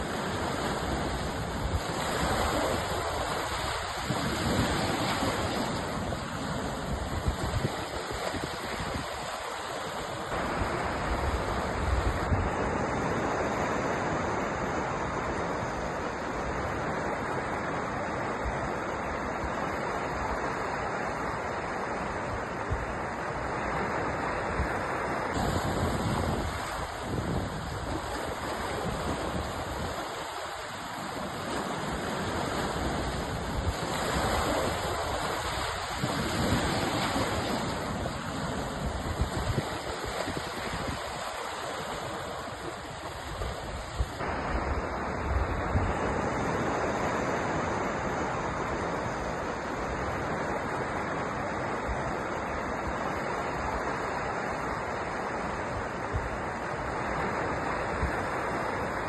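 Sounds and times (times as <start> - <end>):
waves washing and breaking: 0.0 - 59.0
wind rumbling on microphone: 0.0 - 59.0.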